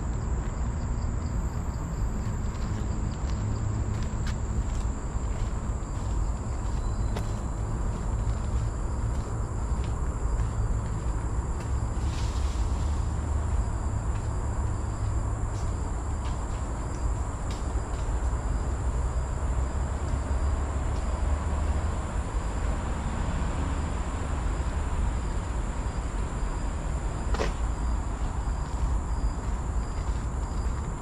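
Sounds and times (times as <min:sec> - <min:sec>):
steady low rumble: 0:00.0 - 0:19.8, 0:24.2 - 0:31.0.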